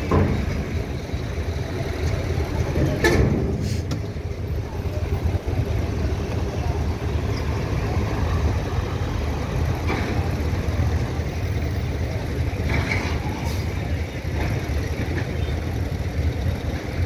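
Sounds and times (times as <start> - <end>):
heavy vehicle engine rumbling: 0.0 - 17.0.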